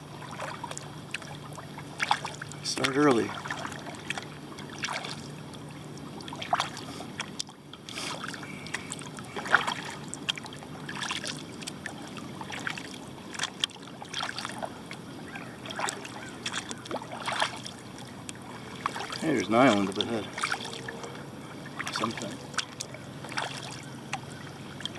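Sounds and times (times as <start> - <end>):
paddle strokes splashing water: 0.0 - 24.9.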